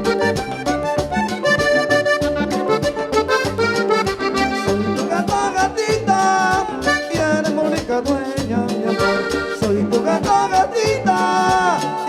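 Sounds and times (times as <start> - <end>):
pulsing bass: 0.0 - 11.8
accordion melody: 0.0 - 12.0
drum beat: 0.0 - 12.0.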